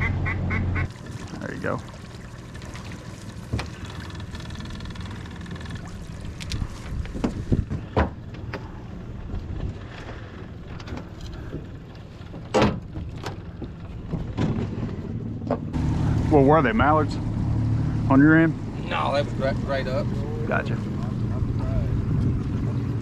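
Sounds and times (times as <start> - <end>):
boat motor running: 0.0 - 23.0.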